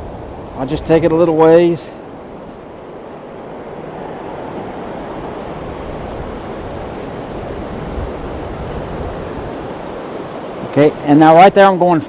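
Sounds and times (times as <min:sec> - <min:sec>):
wind on microphone: 0:00.0 - 0:11.0
surf breaking on shore: 0:00.0 - 0:12.0.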